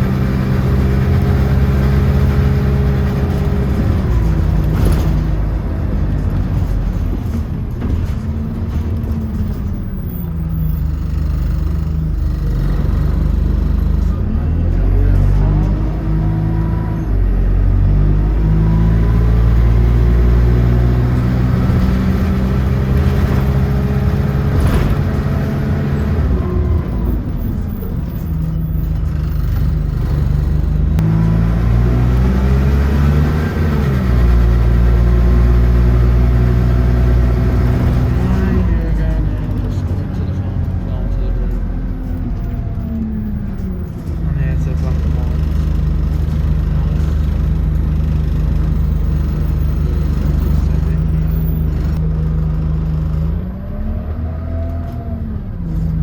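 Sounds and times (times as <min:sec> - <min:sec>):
bus engine shifting gears: 0:00.0 - 0:56.0.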